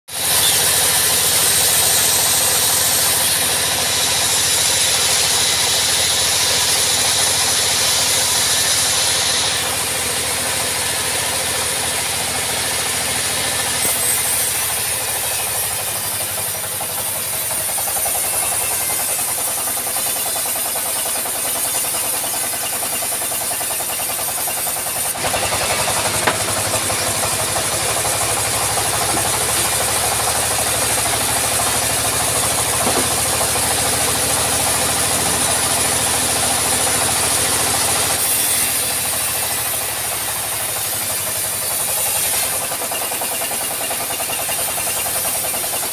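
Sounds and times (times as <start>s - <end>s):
saw blade cutting wood hiss: 0.1s - 45.9s
sawmill engine drone: 0.1s - 45.9s.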